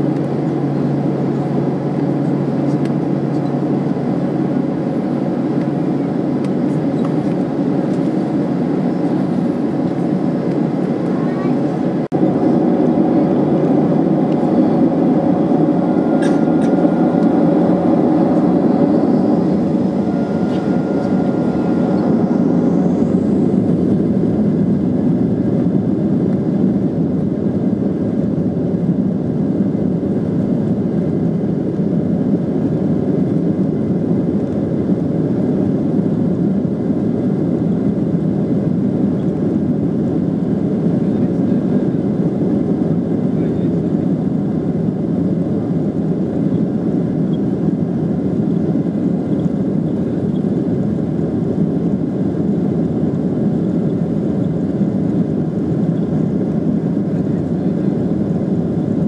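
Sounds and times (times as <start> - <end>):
airflow and cabin noise: 0.0 - 59.0
jet engines rumbling: 0.0 - 59.0.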